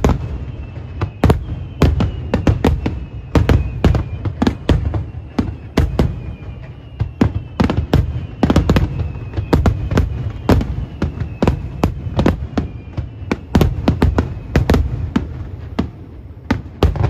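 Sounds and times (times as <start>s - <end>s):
fireworks bangs: 0.0s - 17.0s
fireworks falling whistles: 0.0s - 17.0s.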